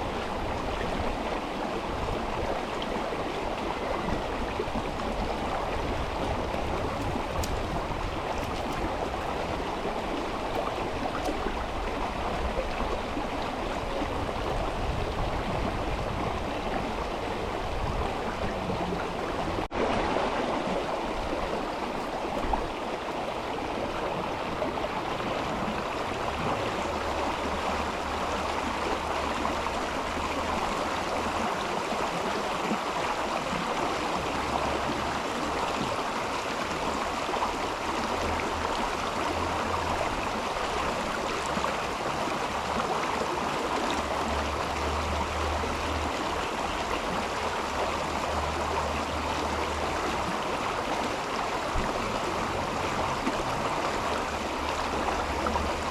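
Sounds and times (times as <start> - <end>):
river flowing: 0.0 - 55.9.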